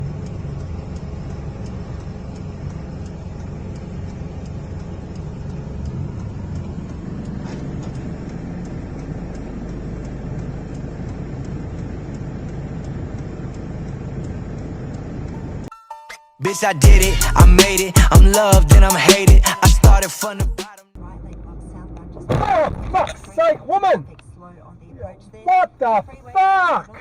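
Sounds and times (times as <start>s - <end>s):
vehicle rumbling: 0.0s - 15.7s, 21.0s - 27.0s.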